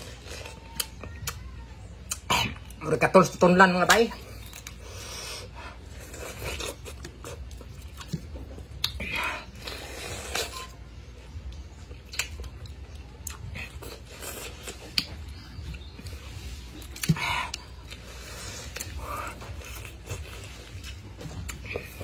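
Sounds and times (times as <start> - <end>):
low steady hum: 0.0 - 22.0
person chewing pineapple: 0.0 - 22.0.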